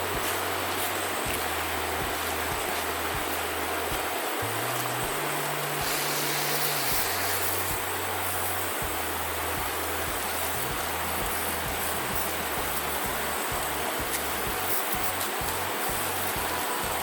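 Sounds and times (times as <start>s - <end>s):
background music with low bass: 0.0s - 17.0s
steady rushing hiss: 0.0s - 17.0s.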